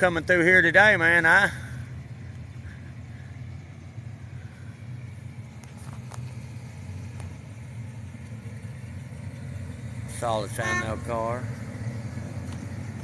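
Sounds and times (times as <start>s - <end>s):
cars driving slowly past: 0.0s - 13.0s.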